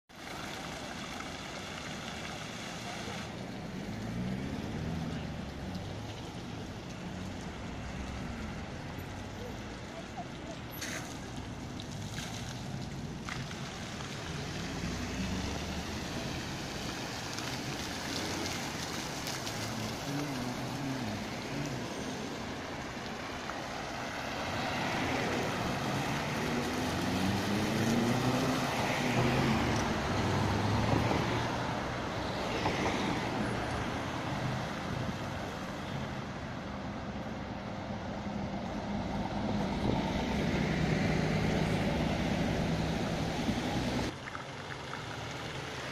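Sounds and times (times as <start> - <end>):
cars and trucks driving past: 0.1 - 45.9.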